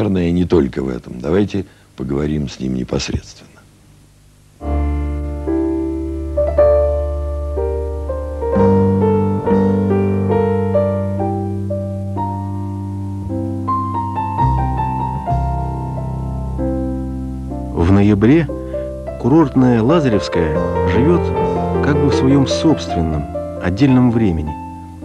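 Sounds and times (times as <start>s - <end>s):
slow solo piano: 4.6s - 25.0s.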